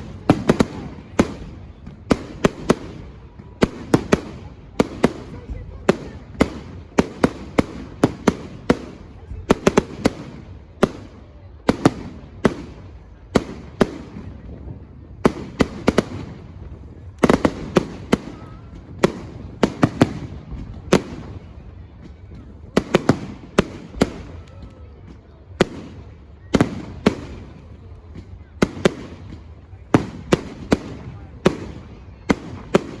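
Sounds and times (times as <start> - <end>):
fireworks bursting: 0.0 - 33.0.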